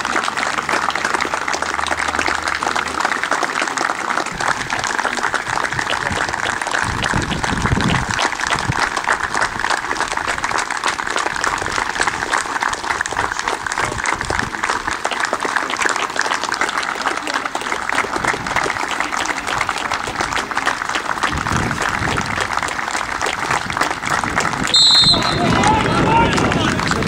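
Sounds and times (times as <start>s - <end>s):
crowd clapping: 0.0s - 27.0s.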